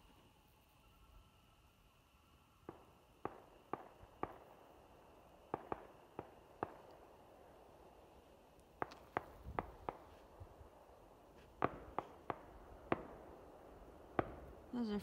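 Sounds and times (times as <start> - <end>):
distant fireworks popping: 2.6 - 14.7.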